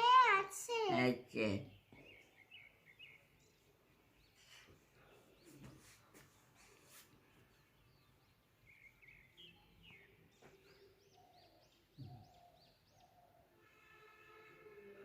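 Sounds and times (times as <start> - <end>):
faint bird chirping: 1.5 - 14.4.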